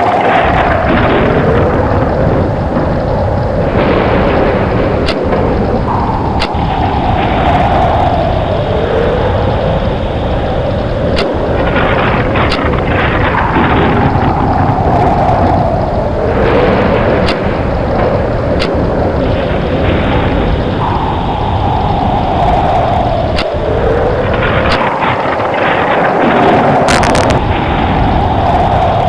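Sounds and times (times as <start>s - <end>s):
deep rumble: 0.0s - 29.0s
howling tone: 0.0s - 29.0s
rushing wind: 0.0s - 29.0s
sharp ticks: 0.4s - 26.1s.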